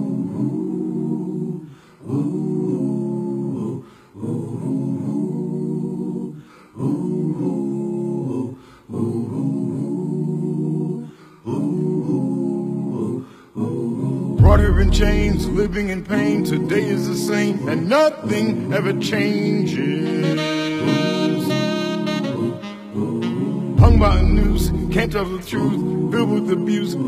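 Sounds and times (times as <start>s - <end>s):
a cappella vocal harmony: 0.0s - 27.0s.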